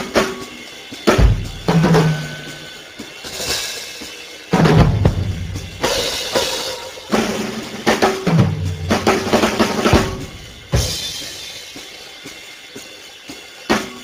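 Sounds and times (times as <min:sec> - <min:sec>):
drum-led background music: 0:00.0 - 0:14.0.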